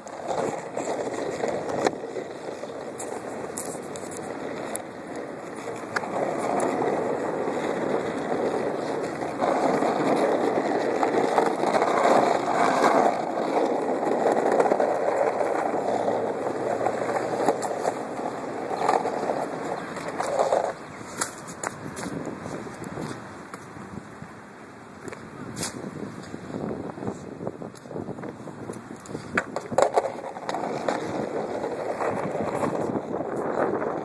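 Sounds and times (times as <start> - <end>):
skateboard wheels rolling on asphalt: 0.0 - 34.0.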